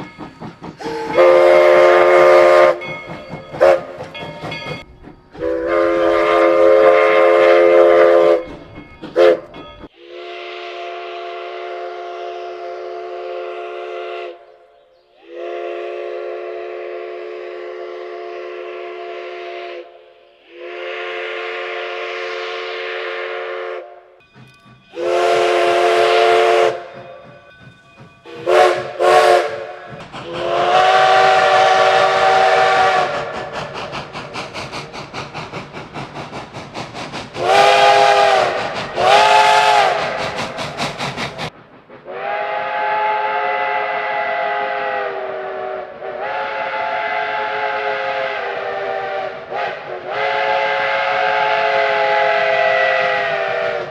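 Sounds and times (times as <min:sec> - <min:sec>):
steam locomotive chime whistle: 0:00.0 - 0:34.9, 0:37.3 - 0:41.1, 0:42.0 - 0:53.9.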